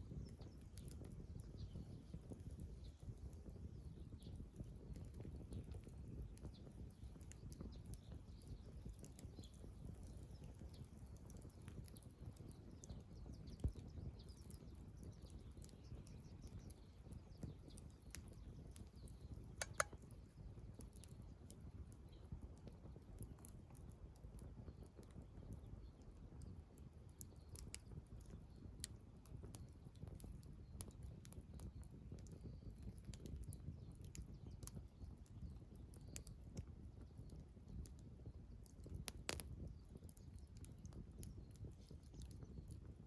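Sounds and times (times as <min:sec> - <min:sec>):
birds chirping faintly: 0:00.0 - 0:23.8, 0:24.6 - 0:43.0
campfire crackling and popping: 0:00.0 - 0:43.0.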